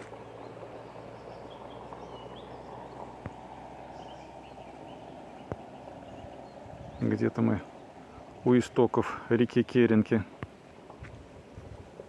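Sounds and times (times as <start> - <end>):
faint songbird chirps: 0.0 - 10.7
low background rumble: 0.0 - 12.0.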